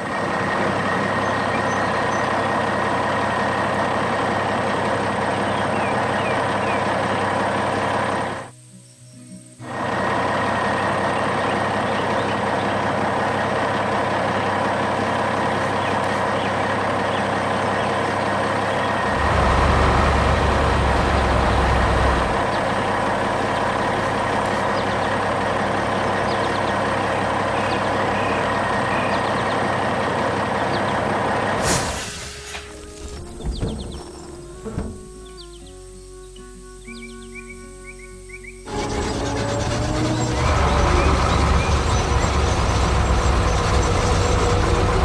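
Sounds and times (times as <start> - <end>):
construction machinery engine running: 0.0 - 8.6, 9.6 - 37.4, 38.2 - 45.0.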